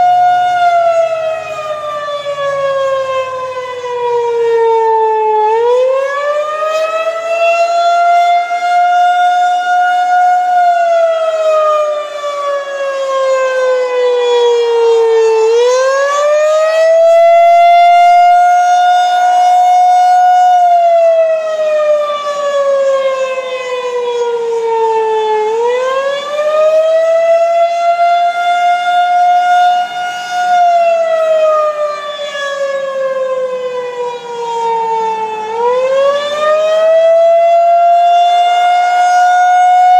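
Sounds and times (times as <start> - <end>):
tornado siren rising and falling: 0.0 - 39.9.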